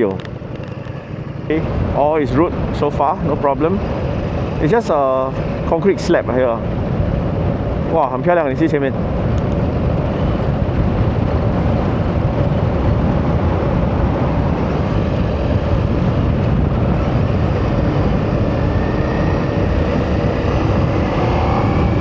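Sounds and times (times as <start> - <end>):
road noise: 0.0 - 22.0
wind rush: 0.0 - 22.0.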